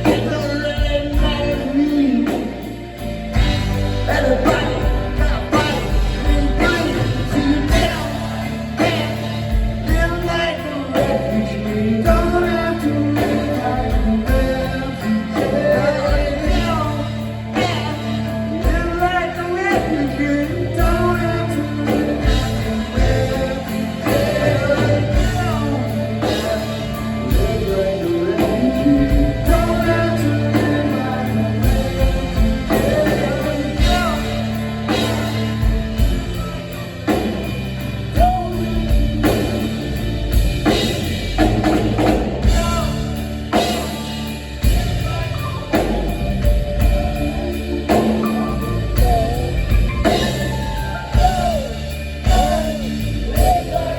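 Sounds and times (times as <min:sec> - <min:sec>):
person singing: 0:00.0 - 0:37.4, 0:38.2 - 0:53.9
rock band playing live: 0:00.0 - 0:53.9.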